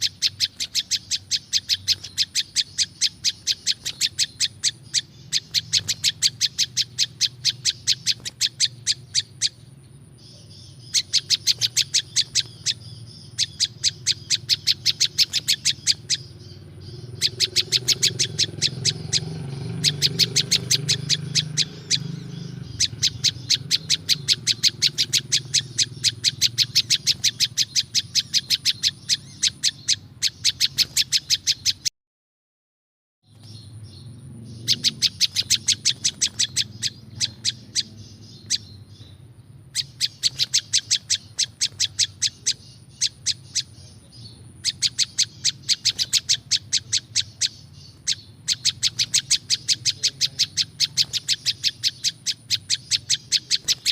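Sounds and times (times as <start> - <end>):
bird chirping rapidly: 0.0 - 31.9, 33.2 - 53.9.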